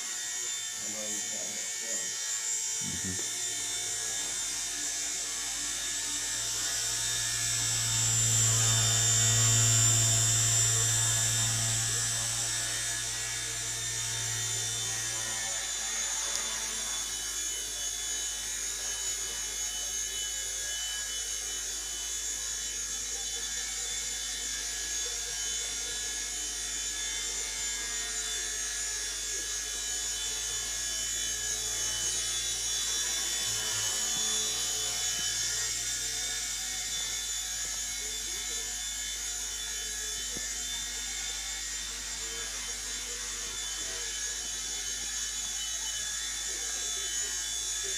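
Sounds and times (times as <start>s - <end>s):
rc helicopter rotor whirring: 0.0s - 47.9s.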